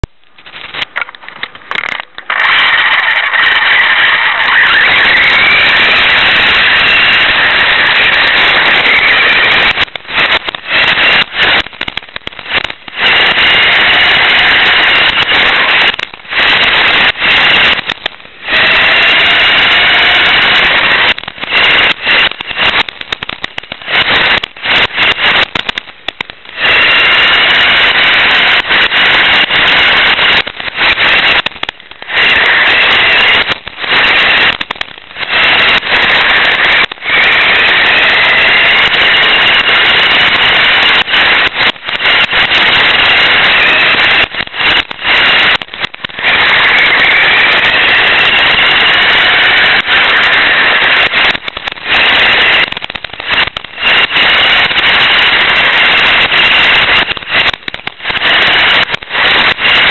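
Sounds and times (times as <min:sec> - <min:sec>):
loud rattling: 0:00.0 - 0:59.9
motor whine: 0:00.0 - 0:59.9.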